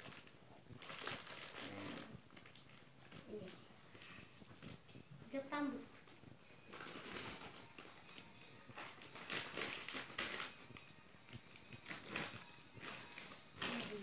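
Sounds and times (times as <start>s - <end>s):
plastic bags crinkling: 0.0s - 5.0s, 5.9s - 14.0s.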